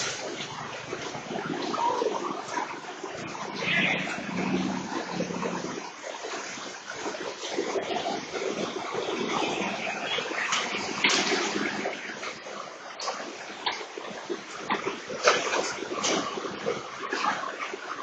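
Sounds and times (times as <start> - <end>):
heavy rain: 0.0 - 18.0
vehicles splashing through water: 0.0 - 18.0.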